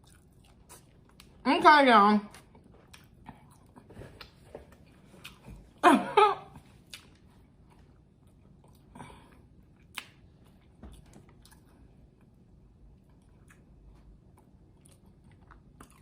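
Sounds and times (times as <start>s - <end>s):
chewing and biting food: 0.0s - 1.4s, 2.3s - 5.8s, 6.6s - 16.0s.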